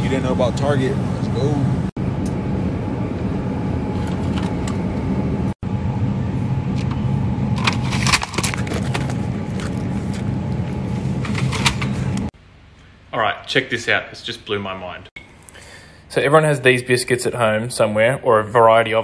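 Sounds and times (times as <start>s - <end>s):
refrigerated case hum and hiss: 0.0s - 19.0s.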